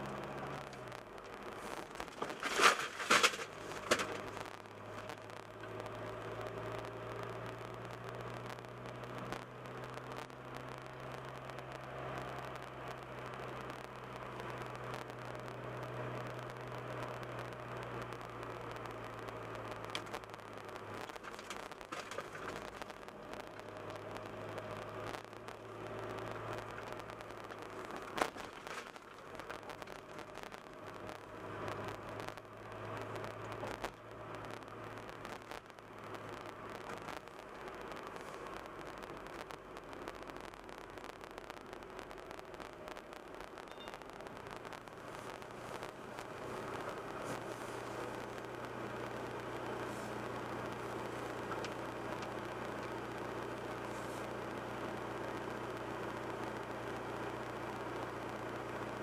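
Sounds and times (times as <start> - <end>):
car engine hum: 0.0 - 59.0
faint clicks: 0.1 - 59.0.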